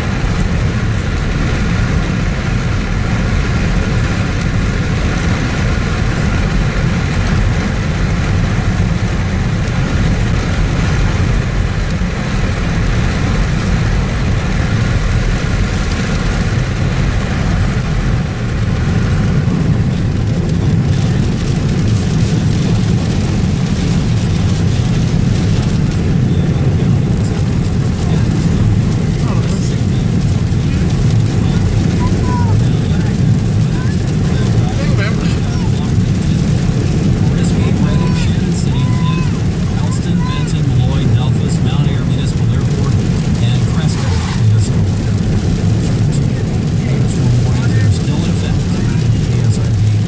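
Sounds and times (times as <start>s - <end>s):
vehicle engine and road noise: 0.0s - 50.0s.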